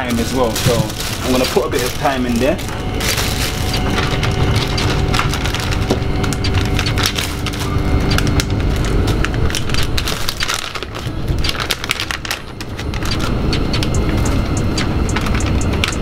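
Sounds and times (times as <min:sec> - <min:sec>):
faint whine: 0:00.0 - 0:16.0
train carriage rumbling: 0:00.0 - 0:16.0
close-up crackling and clicking: 0:00.1 - 0:16.0.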